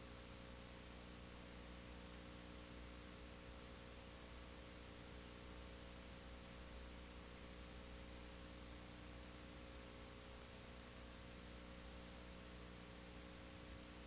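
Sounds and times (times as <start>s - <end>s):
faint steady hiss: 0.0s - 14.0s
low electrical hum: 0.0s - 14.0s.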